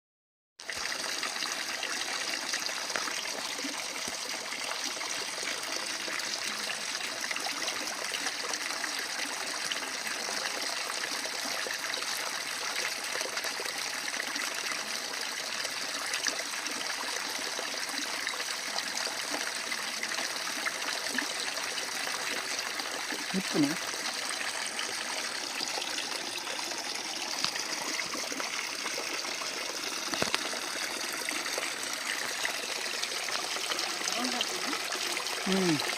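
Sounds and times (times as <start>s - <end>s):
water flowing and trickling: 0.6s - 35.9s.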